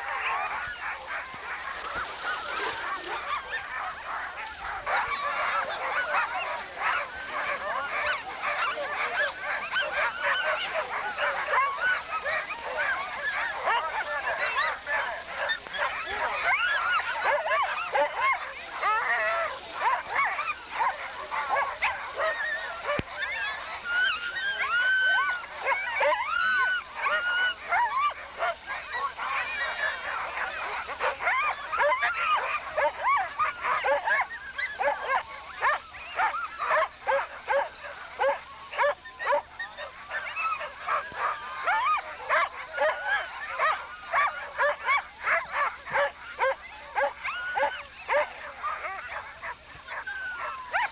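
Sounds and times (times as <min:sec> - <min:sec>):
sled dogs barking and yelping: 0:00.0 - 0:50.9.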